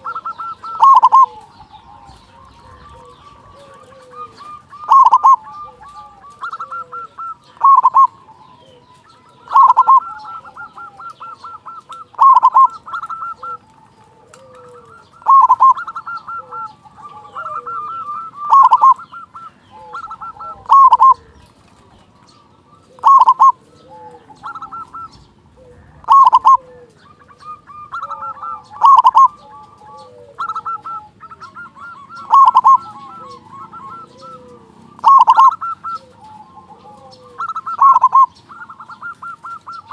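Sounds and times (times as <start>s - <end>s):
dove cooing: 0.0s - 39.9s
soft rolling trills: 0.0s - 39.9s.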